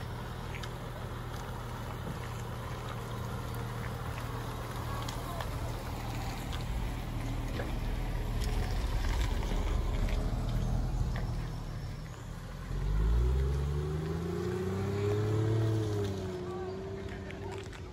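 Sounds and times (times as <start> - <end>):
engine rumbling and revving: 0.0 - 17.9.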